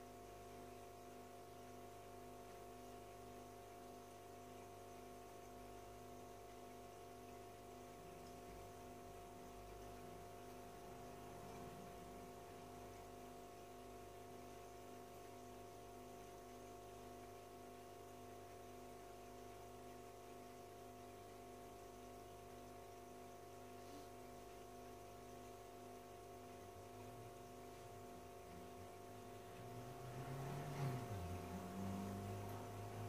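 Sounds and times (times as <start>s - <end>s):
aquarium filter pump hum: 0.0s - 33.0s.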